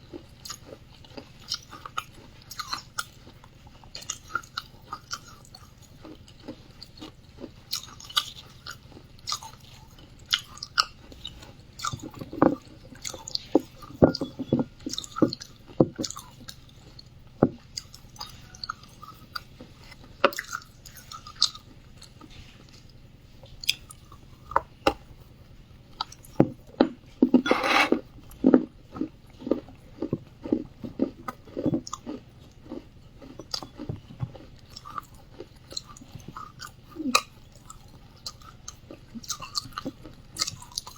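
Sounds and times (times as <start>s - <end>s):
clay being bitten and chewed: 0.0s - 25.1s, 26.0s - 40.9s.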